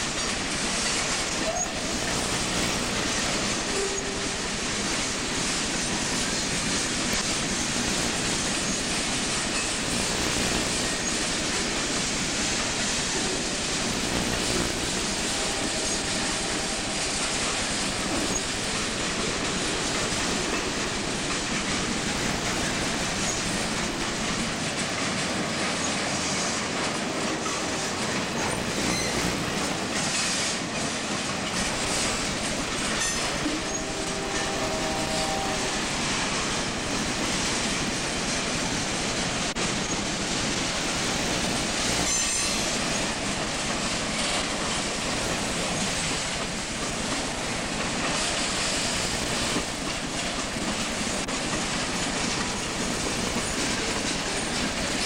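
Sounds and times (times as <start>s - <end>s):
train wheel squeals: 0.0s - 55.0s
train wheels clattering over rail joints: 0.0s - 55.0s.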